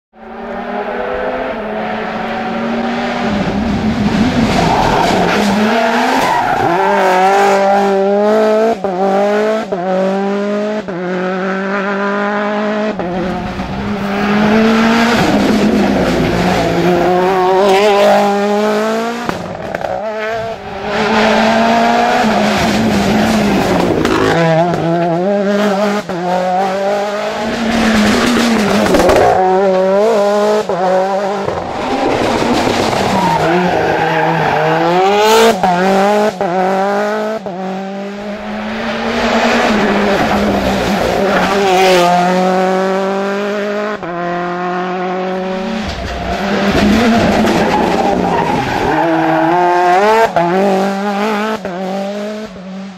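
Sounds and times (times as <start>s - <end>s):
rally car engine revving hard: 0.2s - 52.9s.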